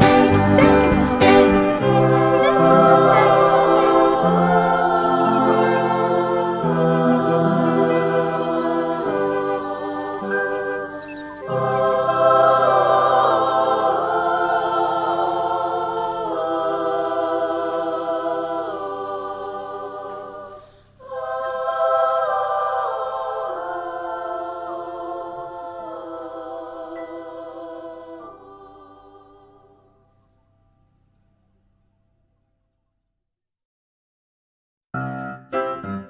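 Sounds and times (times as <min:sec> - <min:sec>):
wordless choir chords: 0:00.0 - 0:30.2.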